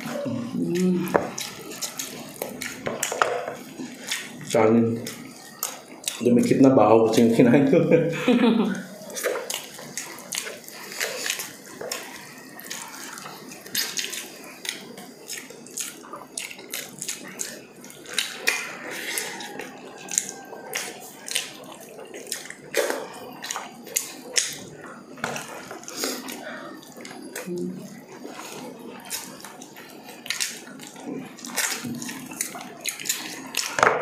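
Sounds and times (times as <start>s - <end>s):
wet chewing and lip-smacking: 0.0s - 6.2s, 8.9s - 33.8s.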